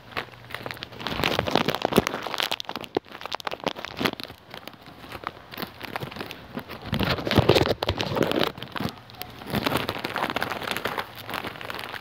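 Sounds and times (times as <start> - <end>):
biscuits being chewed: 0.0 - 12.0.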